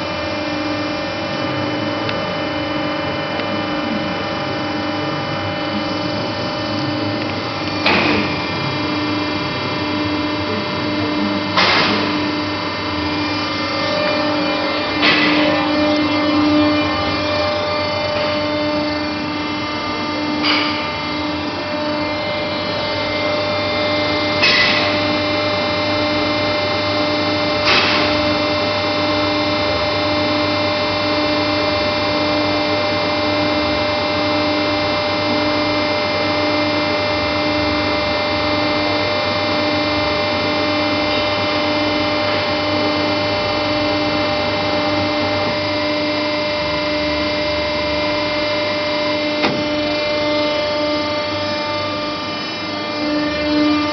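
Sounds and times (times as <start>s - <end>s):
hydraulic power unit humming: 0.0s - 53.9s.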